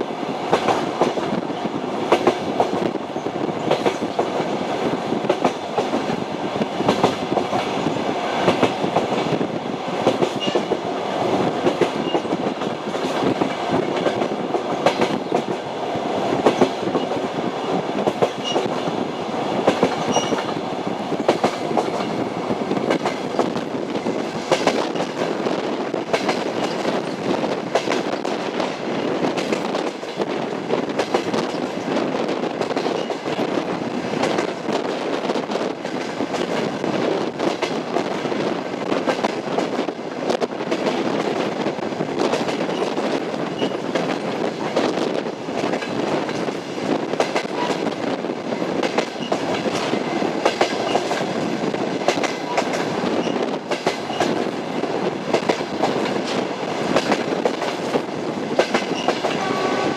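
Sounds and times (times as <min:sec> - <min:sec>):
railway car rumble: 0:00.0 - 0:59.9
train wheels clacking: 0:00.4 - 0:59.9.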